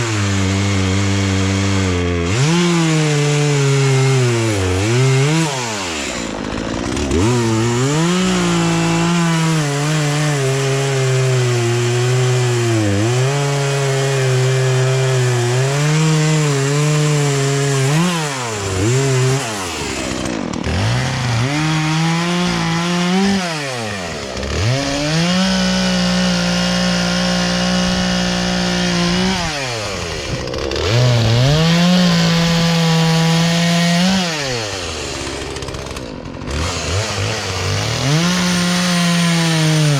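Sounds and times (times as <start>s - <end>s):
chainsaw revving and cutting logs: 0.0s - 39.9s.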